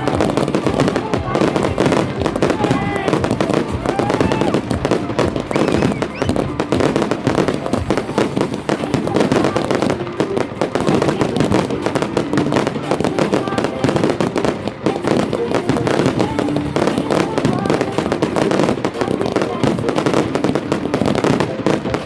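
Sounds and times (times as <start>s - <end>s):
fireworks bangs and crackles: 0.0s - 22.0s
people's voices: 0.0s - 22.0s.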